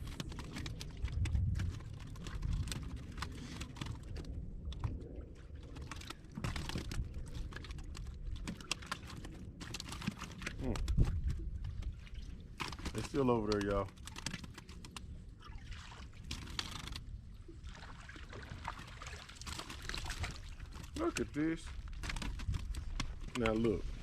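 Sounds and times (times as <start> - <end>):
fishing reel clicks and rustling: 0.0 - 5.0, 5.6 - 15.4, 16.1 - 17.2, 19.4 - 24.0.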